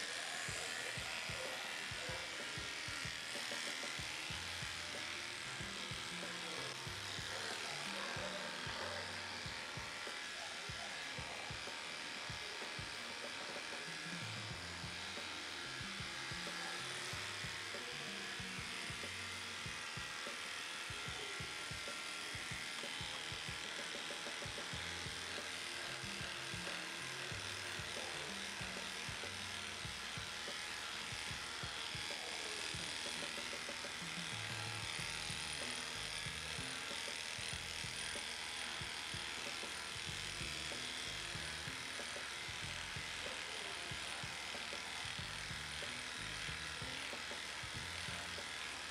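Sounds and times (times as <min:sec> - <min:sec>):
background music: 0:00.0 - 0:48.9
electric clippers running: 0:00.0 - 0:48.9.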